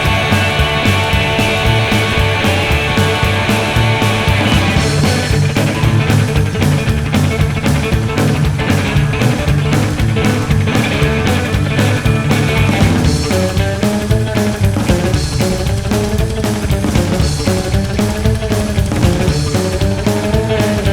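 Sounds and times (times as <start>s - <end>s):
rock band playing: 0.0s - 20.9s.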